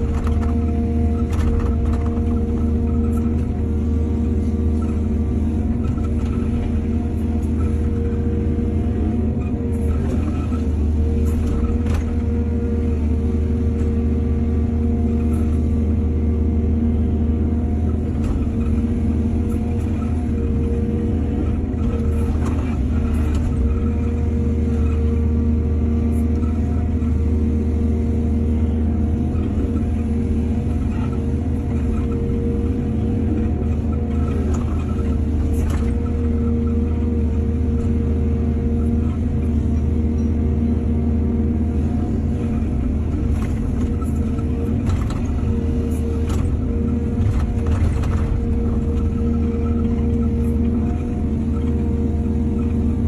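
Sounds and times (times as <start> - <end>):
excavator engine drone: 0.0 - 53.0.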